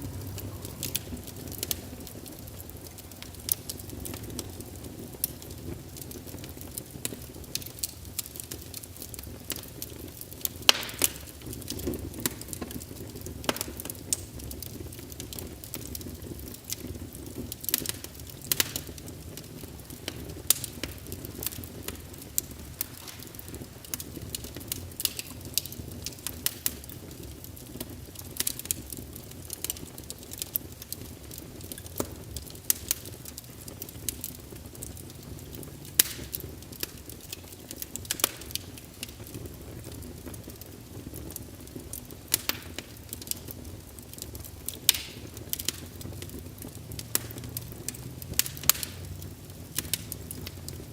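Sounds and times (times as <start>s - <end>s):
fire crackling and popping: 0.0s - 50.9s
low rumble of flames: 0.0s - 50.9s.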